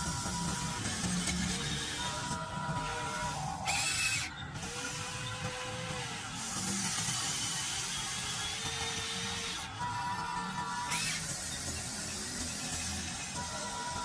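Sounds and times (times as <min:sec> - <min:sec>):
faint motor whine: 0:00.0 - 0:14.0.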